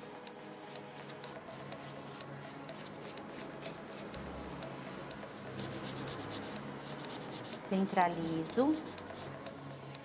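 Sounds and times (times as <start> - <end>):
nail file rasping: 0.0 - 4.2, 5.5 - 9.4.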